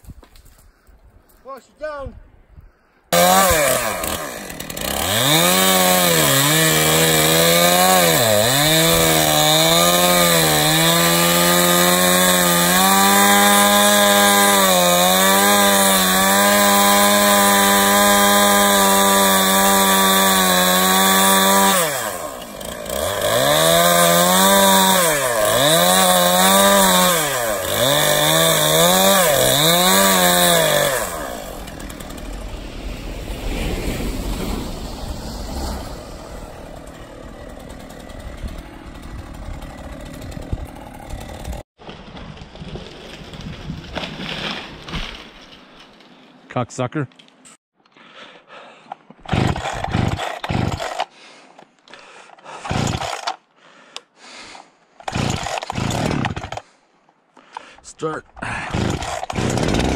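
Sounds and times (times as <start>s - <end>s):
chainsaw cutting wood: 3.1s - 45.5s, 49.1s - 56.8s, 57.4s - 59.9s.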